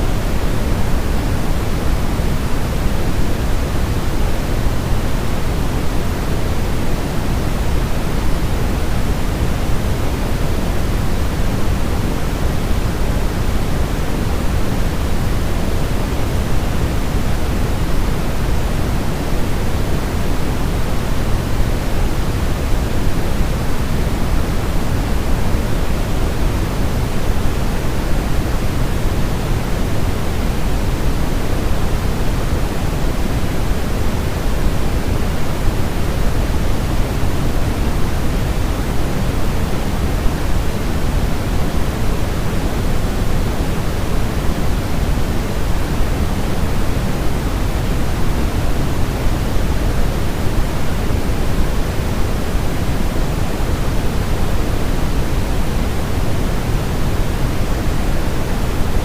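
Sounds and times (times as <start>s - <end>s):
steady pink noise: 0.0s - 59.0s.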